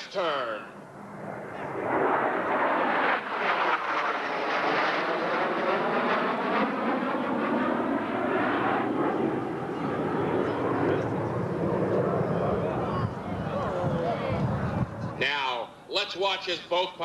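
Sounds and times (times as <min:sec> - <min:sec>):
jet engine roaring: 0:00.0 - 0:17.0.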